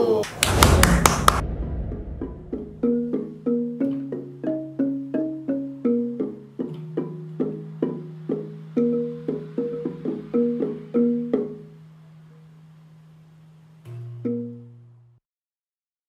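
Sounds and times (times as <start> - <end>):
instrumental music: 2.2 - 15.2.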